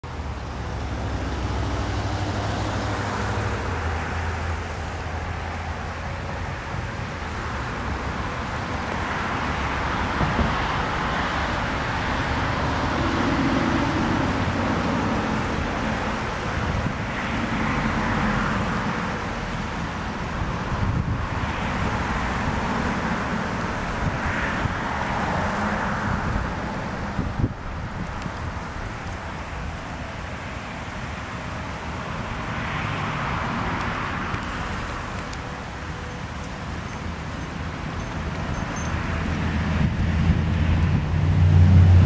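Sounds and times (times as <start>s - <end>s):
passing cars: 0.0s - 42.0s.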